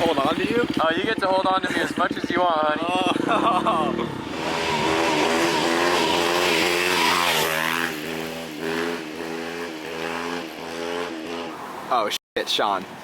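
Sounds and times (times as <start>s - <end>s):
motorcycle engine accelerating: 0.0s - 11.6s.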